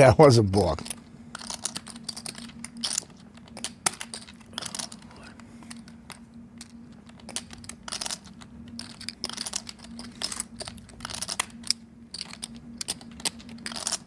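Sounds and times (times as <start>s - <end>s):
clay poker chips clicking: 0.7s - 14.0s.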